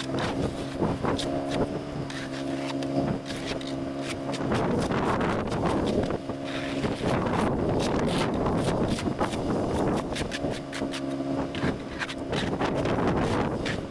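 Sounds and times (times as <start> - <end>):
wind noise on microphone: 0.0 - 13.9.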